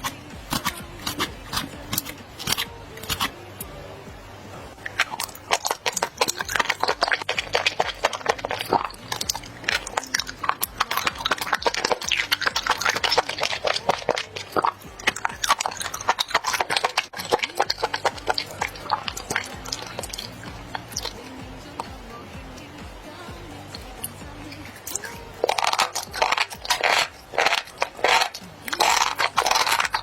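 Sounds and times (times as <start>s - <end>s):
chewing and lip-smacking: 0.0s - 3.7s, 4.8s - 22.7s, 23.7s - 30.0s.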